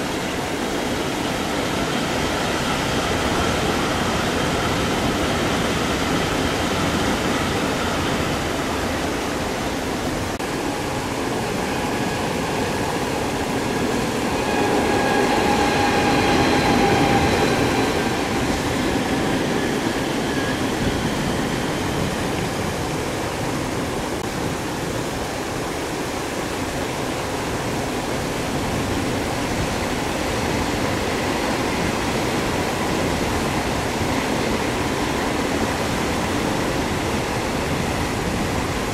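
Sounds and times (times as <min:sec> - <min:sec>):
passing trains: 0:00.0 - 0:38.9.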